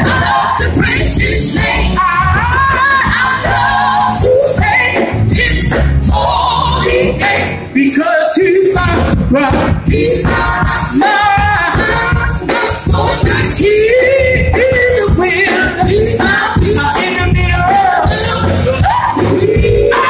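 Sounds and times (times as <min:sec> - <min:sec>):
gospel voices singing: 0:00.0 - 0:20.0
loud instrumental accompaniment: 0:00.0 - 0:20.0.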